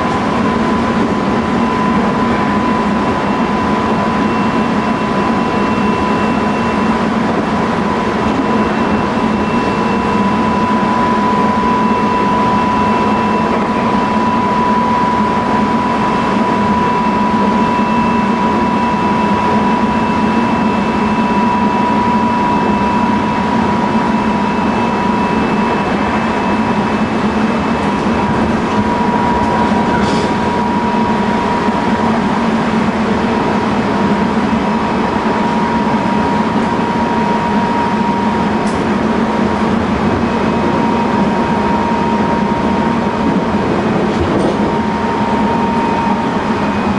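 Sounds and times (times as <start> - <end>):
steady high whine: 0.0 - 46.9
wheels rumbling on rail: 0.0 - 46.9.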